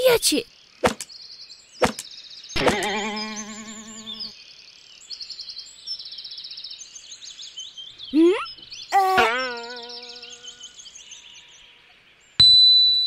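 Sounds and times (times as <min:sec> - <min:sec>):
forest birdsong with high chirps: 0:00.0 - 0:13.0.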